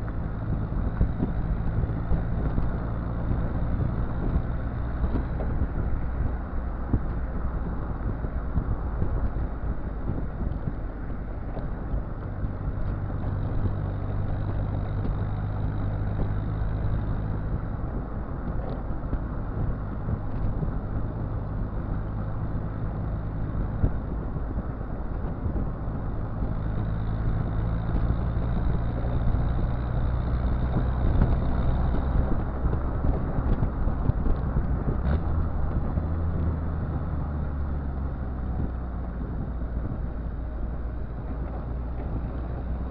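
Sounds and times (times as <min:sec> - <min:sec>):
diesel engine exhaust running: 0:00.0 - 0:42.9.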